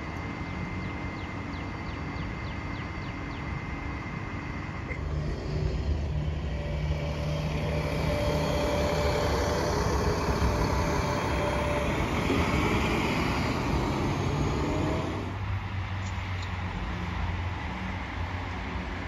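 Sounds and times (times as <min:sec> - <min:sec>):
bus diesel engine: 0:00.0 - 0:19.0.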